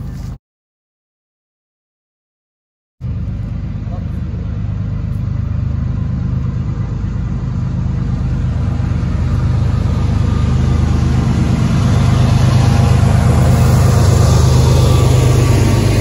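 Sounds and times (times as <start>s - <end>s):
diesel locomotive engine hum: 0.0s - 0.4s, 3.0s - 16.0s.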